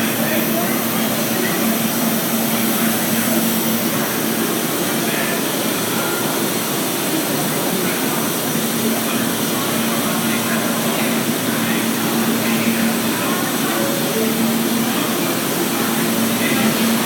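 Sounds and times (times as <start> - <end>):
subway train rushing noise: 0.0 - 17.0.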